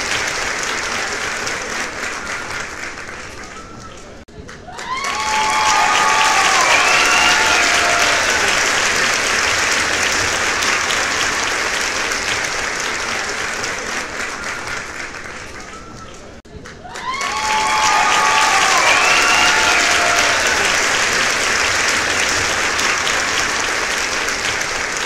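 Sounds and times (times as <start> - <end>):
crowd applauding: 0.0 - 25.0.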